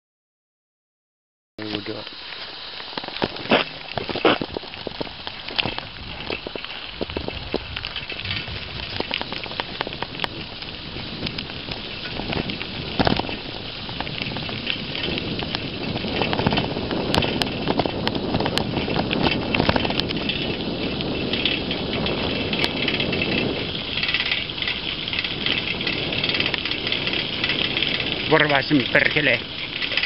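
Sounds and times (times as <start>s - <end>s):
bicycle tyres on gravel: 1.6s - 30.0s.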